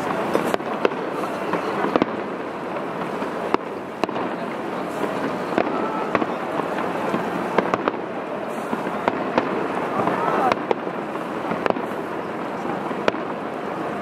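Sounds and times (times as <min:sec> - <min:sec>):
firework shells bursting: 0:00.0 - 0:13.8
continuous noisy background: 0:00.0 - 0:14.0.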